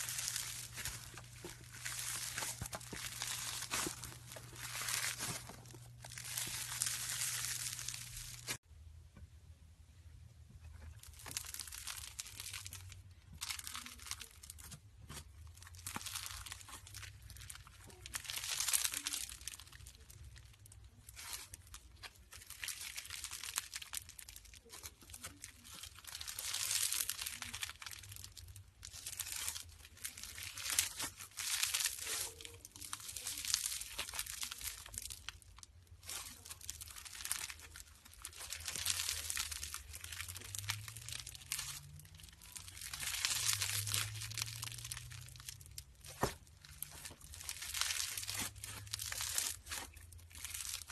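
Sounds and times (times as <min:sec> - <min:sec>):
slime crackling and crinkling: 0:00.0 - 0:08.6, 0:10.5 - 0:50.9.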